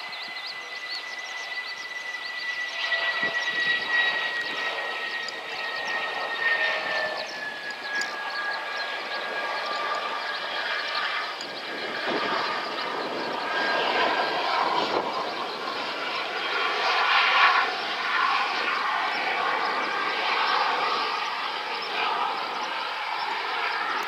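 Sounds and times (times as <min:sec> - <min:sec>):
jet engine whine: 0:00.0 - 0:24.0.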